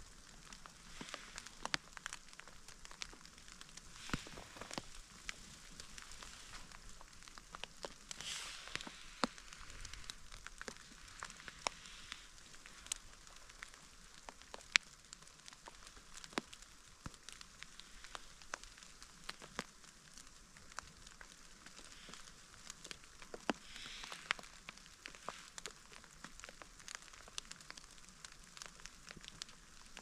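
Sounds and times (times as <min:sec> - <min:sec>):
light rain falling: 0:00.0 - 0:30.0.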